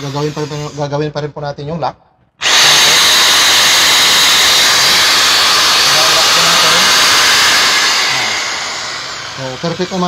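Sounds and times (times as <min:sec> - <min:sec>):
impact drill whirring: 0:00.0 - 0:00.9, 0:02.4 - 0:10.0.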